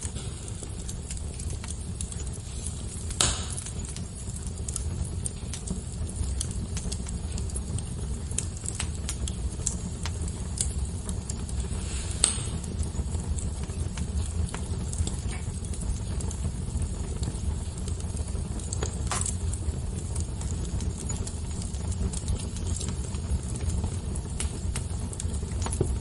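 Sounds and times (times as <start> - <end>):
fire crackling and popping: 0.0 - 26.0
low fire rumble: 0.0 - 26.0.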